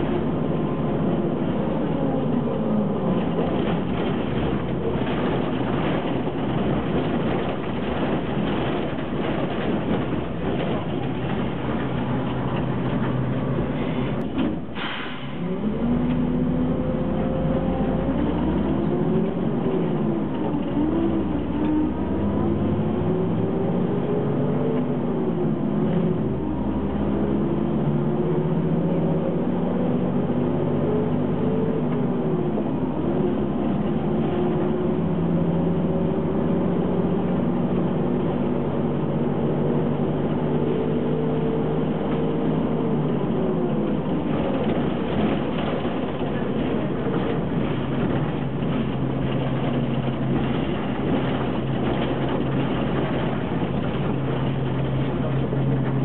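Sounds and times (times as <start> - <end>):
bus diesel engine accelerating: 0.0 - 56.0.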